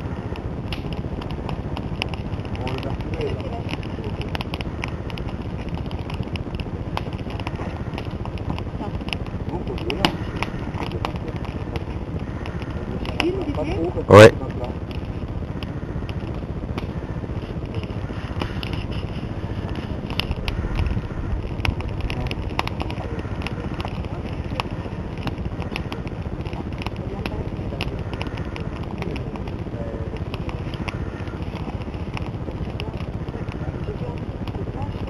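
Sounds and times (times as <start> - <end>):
campfire crackling and popping: 0.0 - 35.0
steady rushing background: 0.0 - 35.0.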